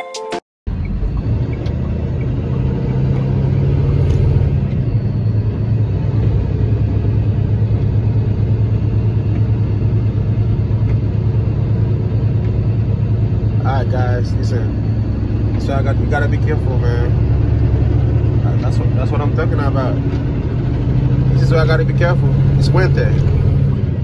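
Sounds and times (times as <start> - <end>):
low road rumble: 0.7 - 24.0
vehicle engine running: 0.7 - 24.0.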